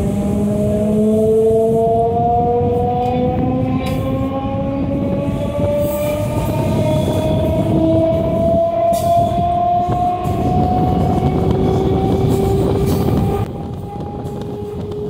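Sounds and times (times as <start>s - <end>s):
train motor whine rising: 0.0s - 15.0s
train rolling rumble: 0.0s - 15.0s.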